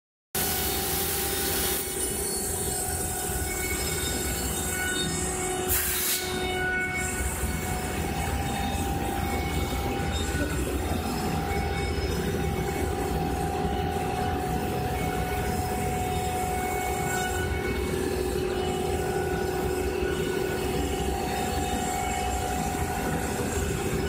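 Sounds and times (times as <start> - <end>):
cutting machine mechanical hum: 0.4 - 24.0.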